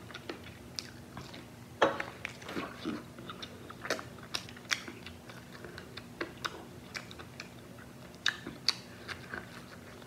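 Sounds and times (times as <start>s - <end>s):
chewing crispy fried chicken: 0.0s - 10.0s.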